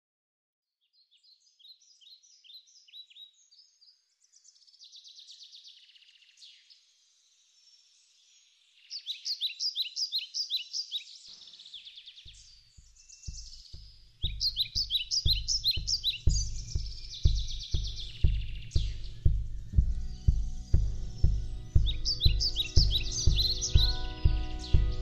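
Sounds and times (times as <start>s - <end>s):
songbirds chirping: 0.8s - 25.0s.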